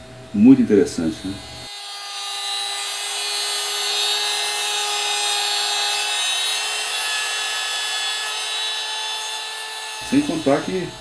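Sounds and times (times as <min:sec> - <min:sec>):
router whining cutting wood: 0:00.4 - 0:11.0.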